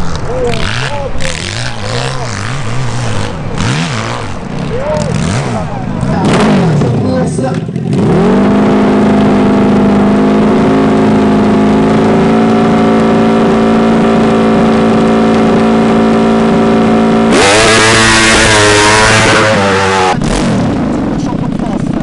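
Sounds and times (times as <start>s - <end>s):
loud rushing noise: 0.0s - 11.5s, 12.1s - 21.4s
motorcycle engine at high revs: 0.0s - 22.0s.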